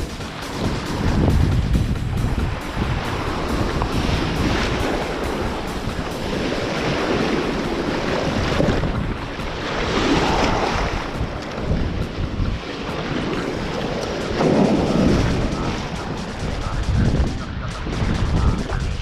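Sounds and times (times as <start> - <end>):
ocean surf washing in: 0.0 - 19.0
wind buffeting microphone: 0.0 - 19.0.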